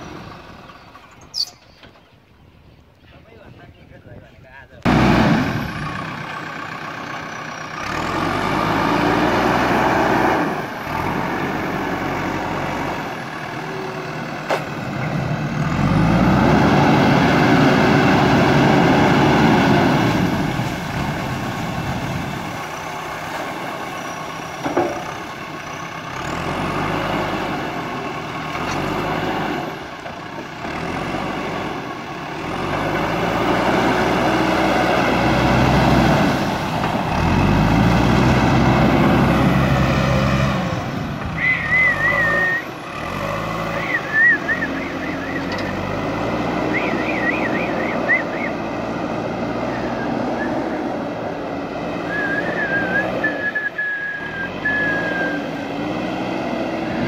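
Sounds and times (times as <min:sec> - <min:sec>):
backhoe diesel engine revving: 0:00.0 - 0:02.1, 0:04.8 - 0:57.0.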